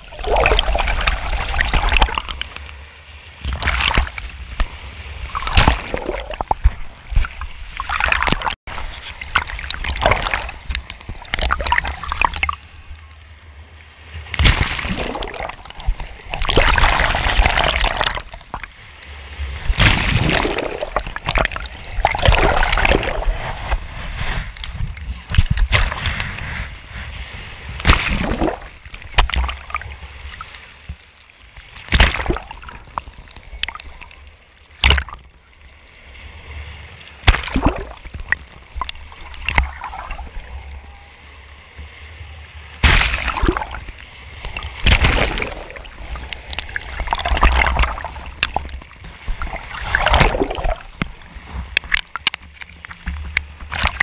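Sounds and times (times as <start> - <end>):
surf splashing and sloshing: 0.0 - 54.0.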